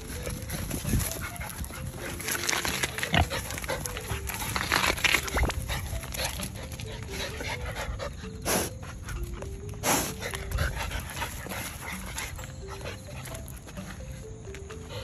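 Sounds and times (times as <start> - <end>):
animals snuffling on gravel: 0.0 - 15.0
light background music: 0.0 - 15.0.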